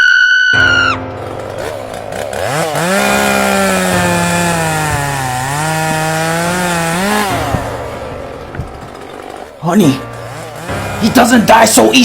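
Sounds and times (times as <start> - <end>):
chainsaw idling and revving: 1.2 - 12.0.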